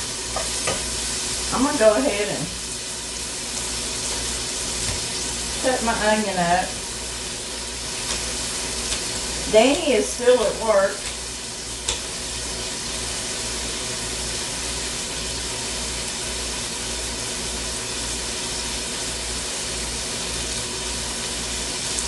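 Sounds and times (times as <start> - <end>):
bacon sizzling in a pot: 0.0 - 22.0.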